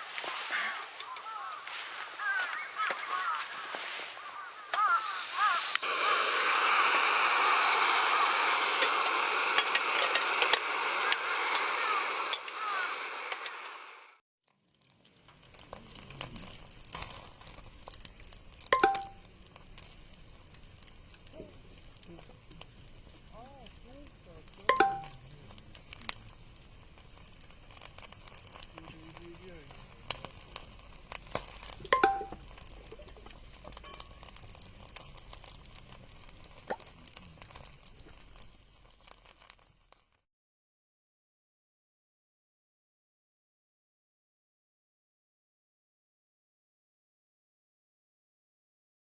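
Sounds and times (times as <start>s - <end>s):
campfire crackling: 0.0s - 40.2s.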